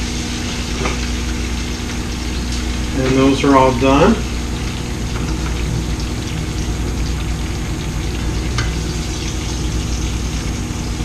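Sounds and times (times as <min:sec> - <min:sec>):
meat sizzling in a skillet: 0:00.0 - 0:11.0.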